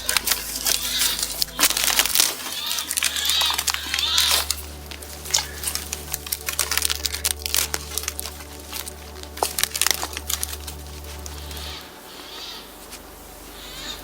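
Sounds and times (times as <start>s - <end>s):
dry wood crackling and snapping: 0.0s - 14.0s.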